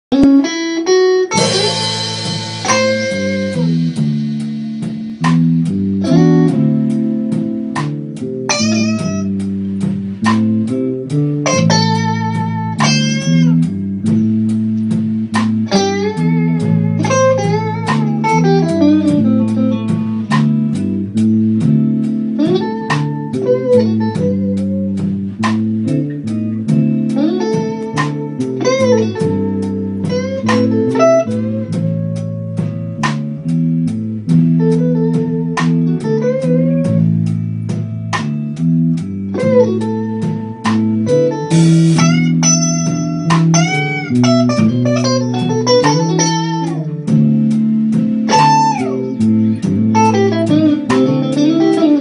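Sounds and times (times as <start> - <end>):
electric guitar lead lines: 0.0 - 52.0
bass line: 0.1 - 52.0
drums steady slow beat: 0.2 - 52.0.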